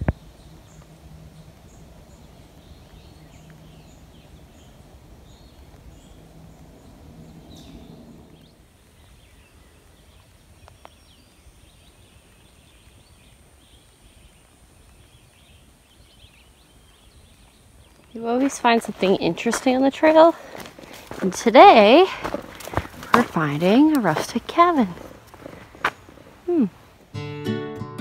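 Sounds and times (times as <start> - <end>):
low steady hum: 0.0 - 26.9
small birds chirping: 0.0 - 27.1.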